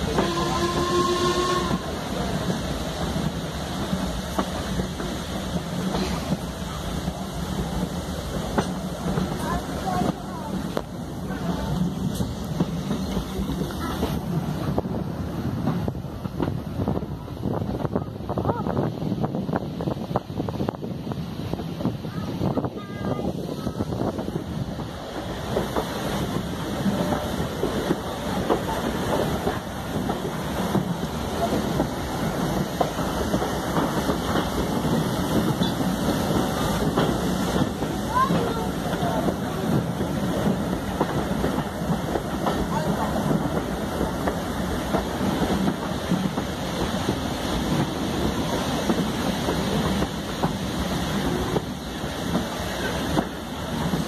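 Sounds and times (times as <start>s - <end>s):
train wheels rumbling on rails: 0.0s - 54.0s
wind on microphone: 9.1s - 54.0s.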